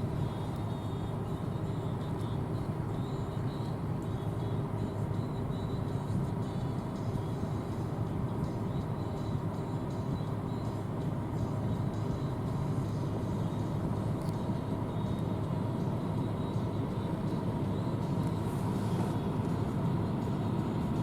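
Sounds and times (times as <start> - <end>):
combine harvester drone: 0.0 - 21.0
faint machine whine: 0.0 - 21.0.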